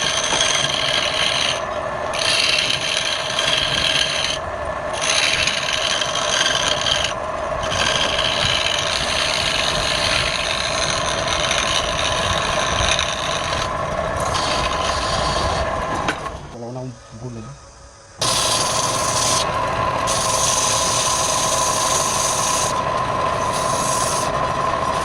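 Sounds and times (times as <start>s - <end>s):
turning tool rubbing spinning wood: 0.0s - 16.4s, 18.2s - 25.0s
wood lathe running: 0.0s - 16.4s, 18.2s - 25.0s.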